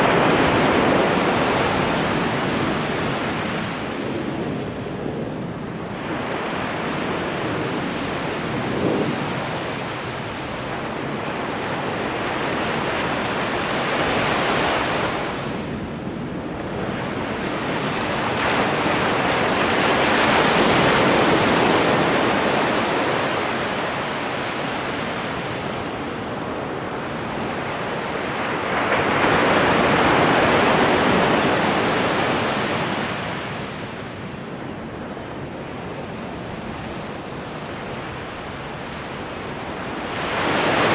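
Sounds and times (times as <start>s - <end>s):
ocean surf breaking on beach: 0.0s - 40.9s.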